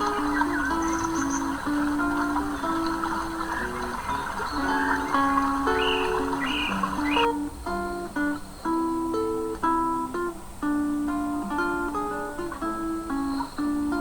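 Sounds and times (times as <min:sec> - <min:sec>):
acoustic guitar plucked melody: 0:00.0 - 0:14.0.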